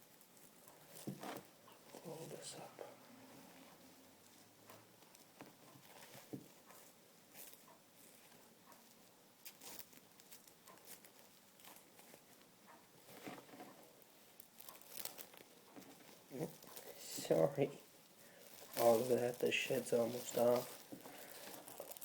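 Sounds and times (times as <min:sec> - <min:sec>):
faint handling rustles and taps: 0:00.3 - 0:02.2, 0:03.4 - 0:22.0.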